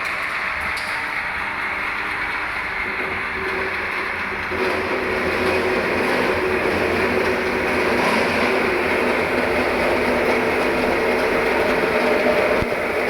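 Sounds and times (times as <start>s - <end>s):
rice husker mechanical drone: 0.0s - 13.0s.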